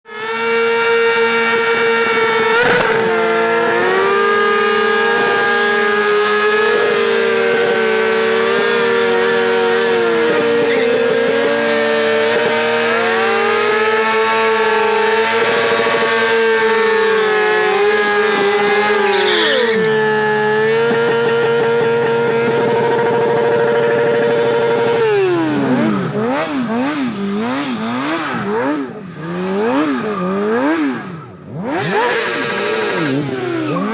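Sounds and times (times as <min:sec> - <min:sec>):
high-revving engines: 0:00.0 - 0:33.9.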